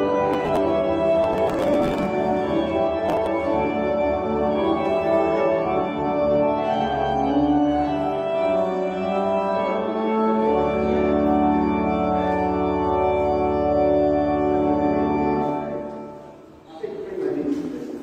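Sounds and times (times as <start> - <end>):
deep bass organ note: 0.0 - 15.8
church organ chords: 0.0 - 16.7.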